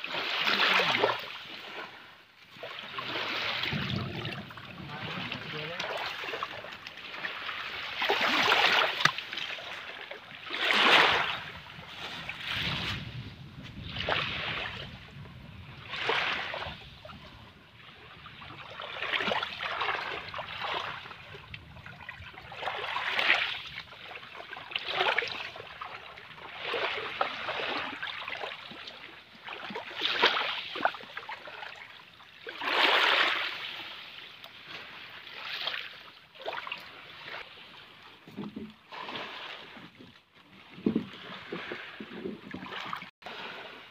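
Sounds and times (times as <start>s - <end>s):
small waves washing over sand: 0.0s - 43.9s.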